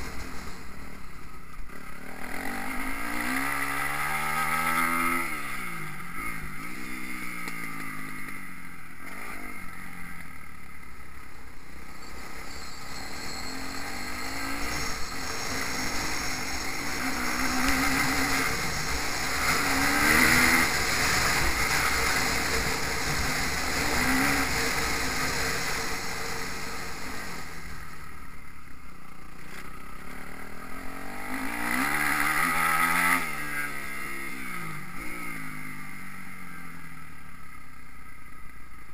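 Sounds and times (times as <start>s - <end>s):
motocross bike engine revving: 1.6s - 10.8s, 11.7s - 28.4s, 29.1s - 37.0s.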